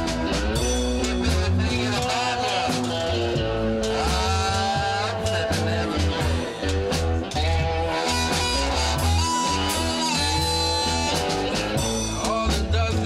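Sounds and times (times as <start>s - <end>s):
amplified harmonica: 0.0s - 12.9s
bass guitar: 0.0s - 13.0s
drums beating: 0.0s - 13.0s
electric guitars: 0.0s - 13.0s.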